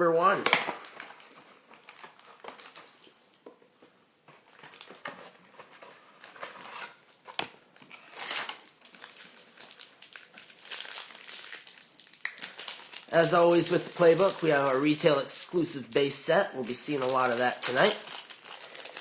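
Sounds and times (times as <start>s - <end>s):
cardboard and wrapper crinkling: 0.4s - 3.4s, 4.3s - 19.0s.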